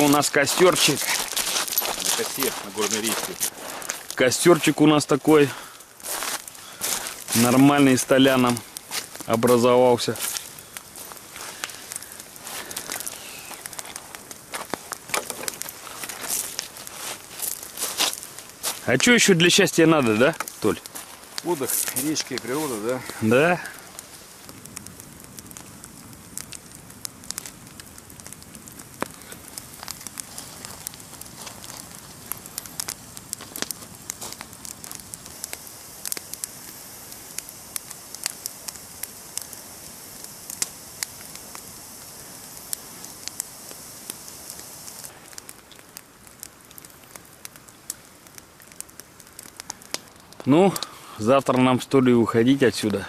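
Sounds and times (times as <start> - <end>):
campfire crackling and popping: 0.0 - 53.0
fire low hiss: 0.0 - 53.0.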